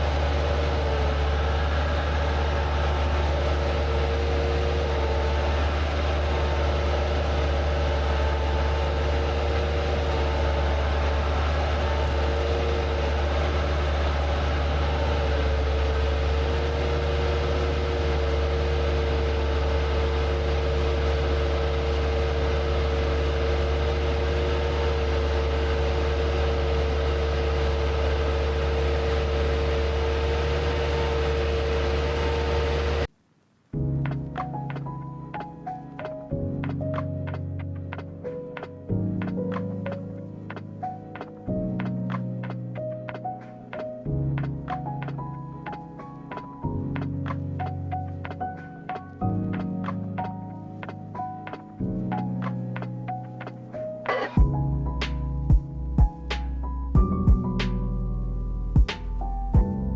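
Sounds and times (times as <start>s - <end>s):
skid steer engine running: 0.0s - 33.1s, 34.5s - 59.9s.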